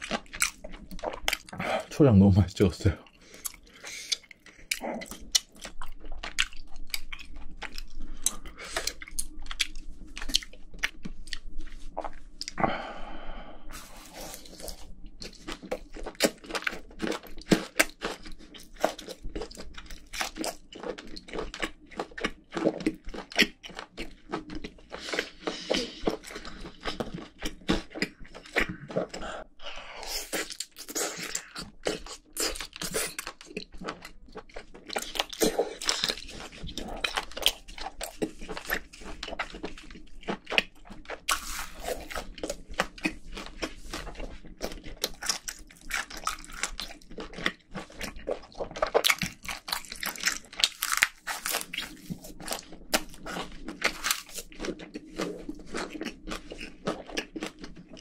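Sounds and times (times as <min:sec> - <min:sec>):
chewing with mouth clicks and smacks: 0:00.0 - 0:01.9, 0:03.0 - 0:12.6, 0:14.0 - 0:58.0.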